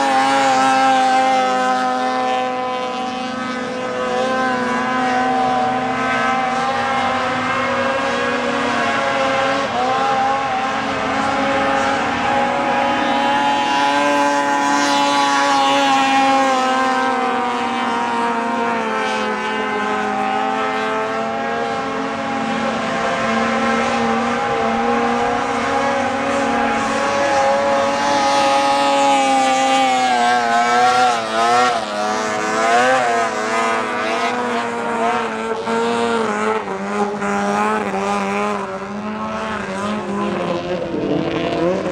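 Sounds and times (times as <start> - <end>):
snowmobile engines at high revs: 0.0 - 41.9.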